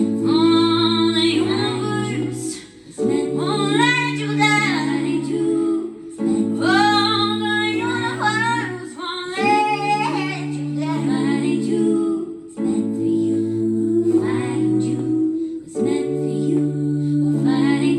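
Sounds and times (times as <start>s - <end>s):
woman singing: 0.0s - 17.9s.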